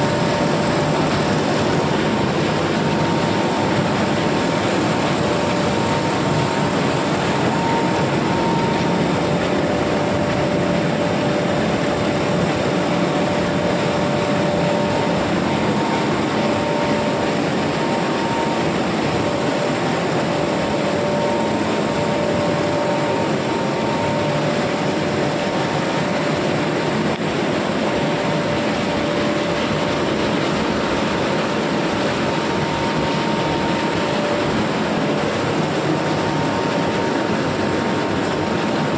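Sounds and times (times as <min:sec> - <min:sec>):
faint machine whine: 0:00.0 - 0:38.9
machinery motors and blowers running: 0:00.0 - 0:38.9.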